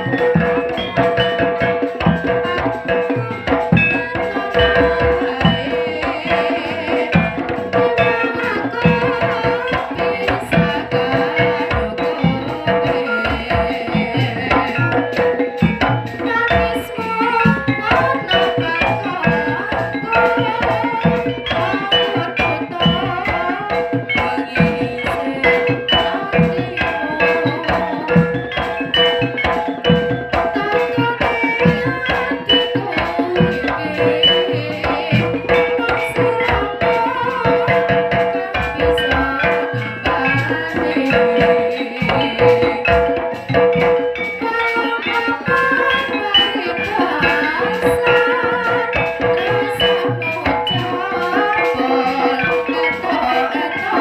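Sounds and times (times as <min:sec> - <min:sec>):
hand drums beating: 0:00.0 - 0:54.0
metallophone notes: 0:00.0 - 0:54.0.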